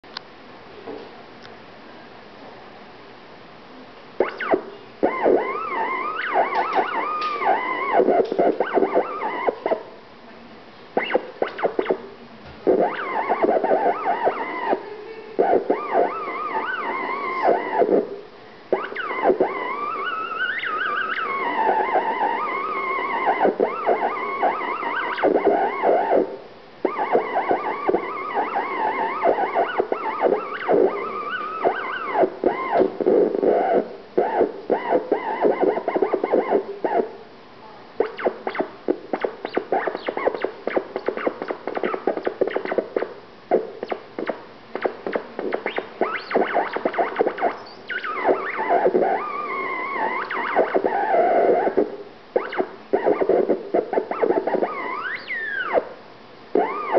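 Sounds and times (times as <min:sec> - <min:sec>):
theremin-style electronic tones: 0:04.2 - 0:10.0, 0:11.0 - 0:37.2, 0:38.0 - 0:56.9.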